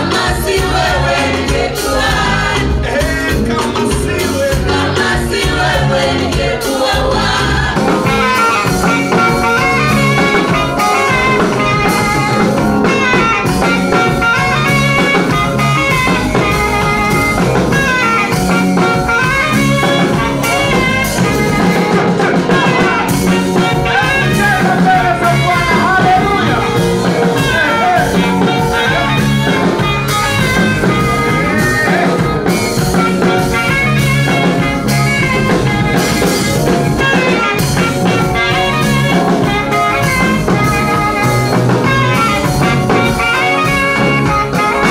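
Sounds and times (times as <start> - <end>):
drums: 0.0 - 44.9
gospel praise music: 0.0 - 44.9
guitar: 0.0 - 44.9
person singing: 0.0 - 44.9.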